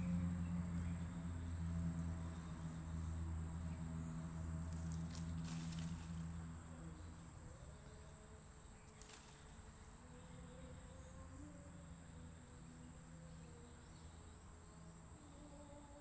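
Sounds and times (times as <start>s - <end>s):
insects droning: 0.0s - 16.0s
low steady hum: 0.0s - 16.0s.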